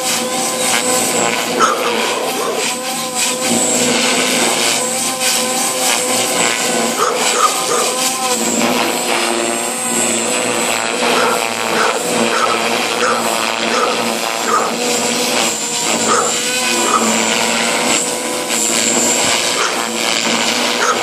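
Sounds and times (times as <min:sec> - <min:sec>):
rc helicopter motor whine: 0:00.0 - 0:21.0
rotor blades buzzing: 0:00.0 - 0:21.0.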